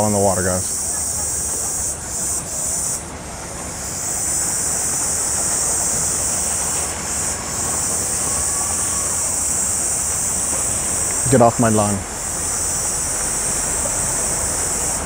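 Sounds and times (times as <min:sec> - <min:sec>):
crickets chirping: 0:00.0 - 0:15.0
low background rush: 0:00.0 - 0:15.0.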